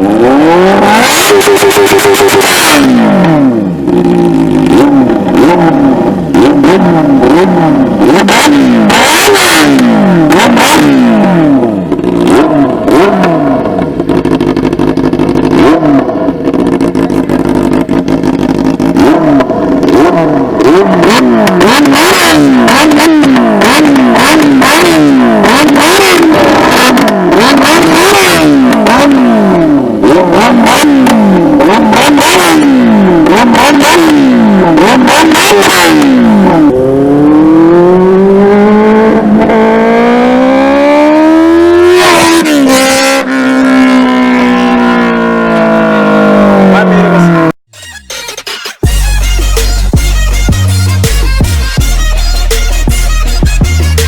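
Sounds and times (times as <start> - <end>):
motorcycle engine revving: 0.0 - 47.8, 48.8 - 54.0.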